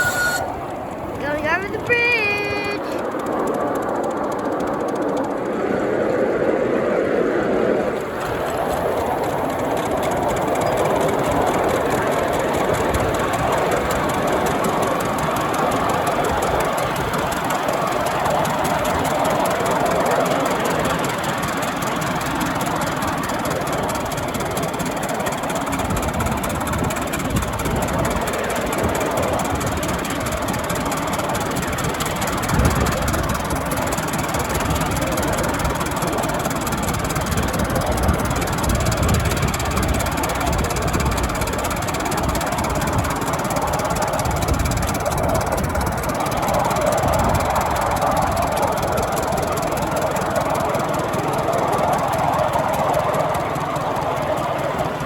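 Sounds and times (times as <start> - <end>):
miniature locomotive running: 0.0 - 55.0.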